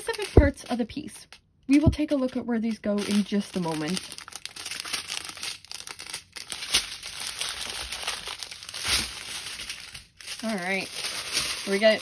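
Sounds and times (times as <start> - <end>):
plastic bags crinkling: 0.0 - 1.2, 1.8 - 12.0.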